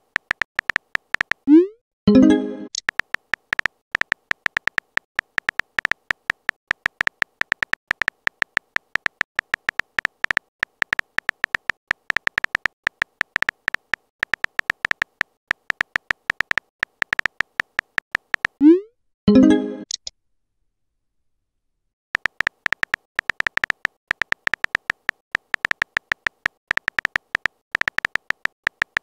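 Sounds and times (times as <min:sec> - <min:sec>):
phone keyboard taps: 0:00.0 - 0:01.4, 0:02.8 - 0:18.6, 0:22.2 - 0:29.0.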